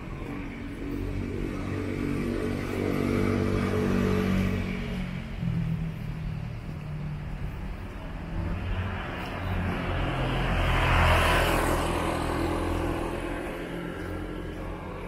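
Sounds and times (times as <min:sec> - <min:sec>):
vehicle engines running: 0:00.0 - 0:15.0
vehicle passing close by: 0:00.8 - 0:15.0.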